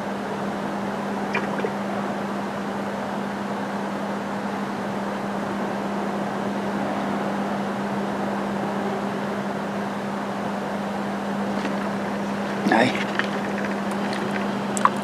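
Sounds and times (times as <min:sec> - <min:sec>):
constant low hum: 0:00.0 - 0:15.0
steady machine drone: 0:00.0 - 0:15.0.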